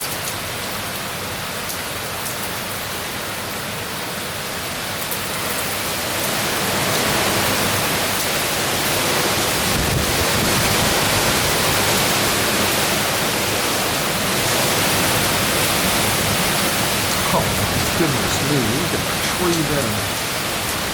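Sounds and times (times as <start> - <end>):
rain: 0.0 - 20.9
hurricane wind: 3.4 - 20.9.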